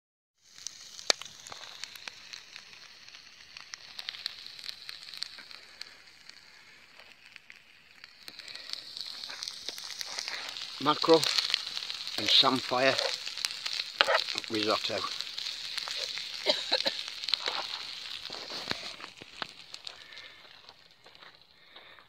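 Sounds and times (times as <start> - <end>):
fire popping and crackling: 0.4 - 22.0
food sizzling over campfire: 0.4 - 22.0.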